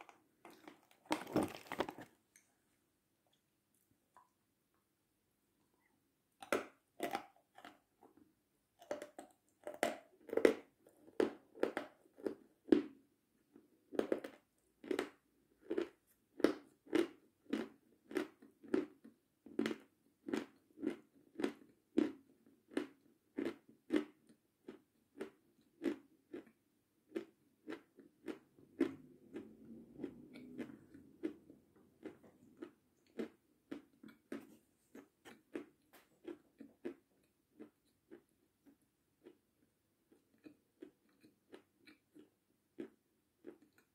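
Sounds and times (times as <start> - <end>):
crisp chewing crunches: 0.0 - 2.5, 6.4 - 8.2, 8.8 - 13.0, 13.9 - 43.9.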